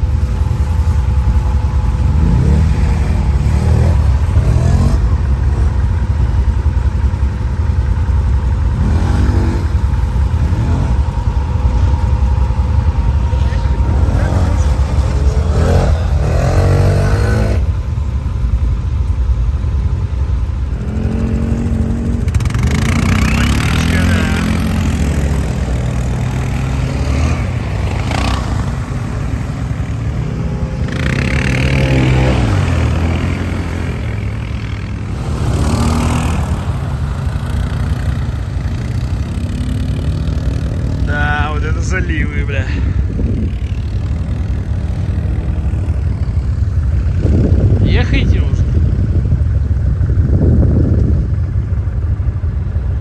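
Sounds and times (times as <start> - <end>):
rushing noise: 0.0 - 50.7
quad bike engine revving: 0.0 - 53.0.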